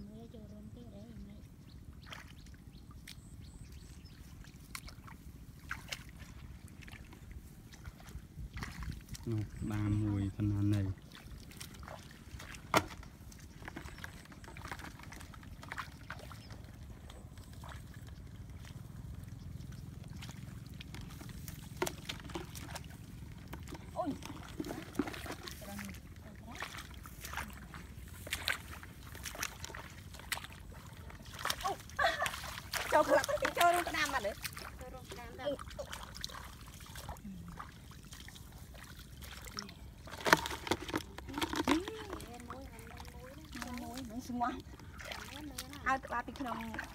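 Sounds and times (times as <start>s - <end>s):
feet splashing through water: 1.8s - 46.9s.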